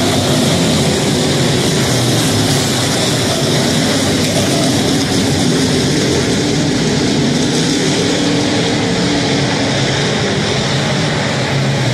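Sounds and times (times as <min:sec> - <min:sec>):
race car engines running: 0:00.0 - 0:11.9.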